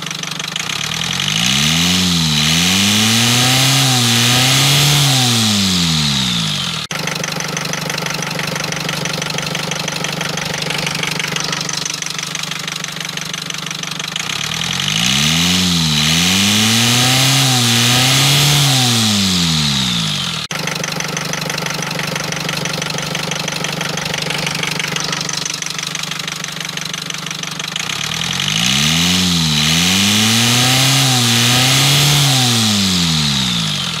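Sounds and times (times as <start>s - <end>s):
diesel engine idling and revving: 0.0s - 34.0s.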